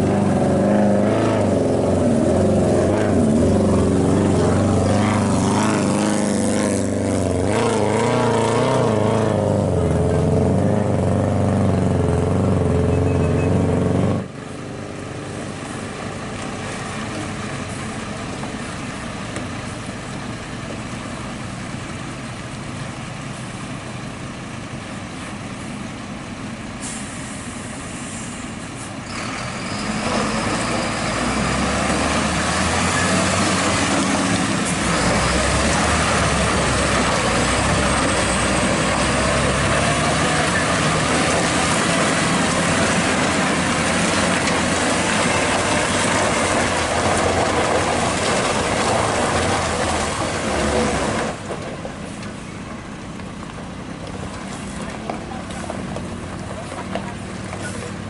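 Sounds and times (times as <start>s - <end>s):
truck diesel engine driving: 0.0s - 58.0s.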